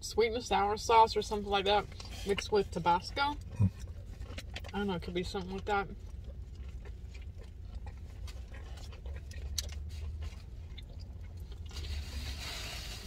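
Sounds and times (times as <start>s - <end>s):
low steady hum: 0.0s - 13.0s
crunchy chewing: 1.6s - 13.0s.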